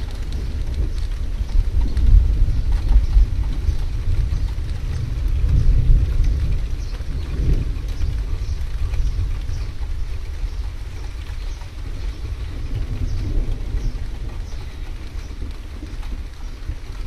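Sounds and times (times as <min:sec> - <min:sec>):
low thunder rumble: 0:00.0 - 0:17.0
raindrops tapping: 0:00.0 - 0:17.0.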